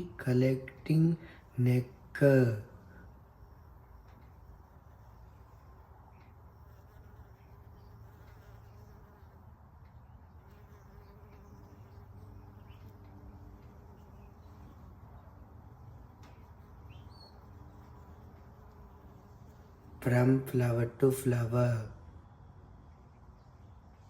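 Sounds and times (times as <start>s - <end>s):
bee buzzing: 0.0s - 20.5s.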